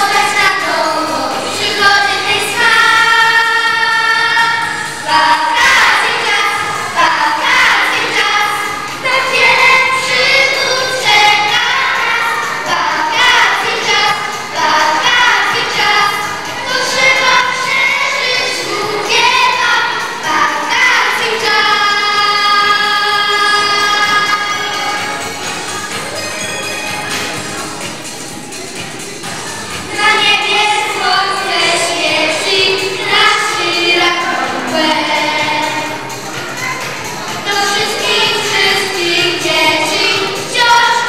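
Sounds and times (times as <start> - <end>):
children singing: 0.0 - 41.0.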